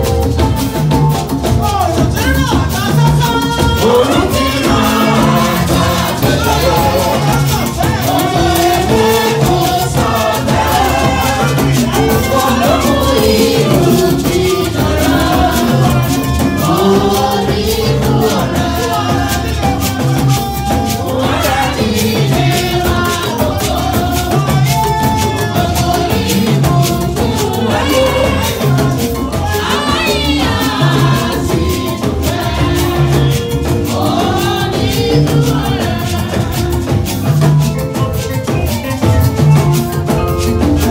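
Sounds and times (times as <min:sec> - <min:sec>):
gospel choir singing: 0:00.0 - 0:40.9
shaker percussion and drums: 0:00.0 - 0:40.9.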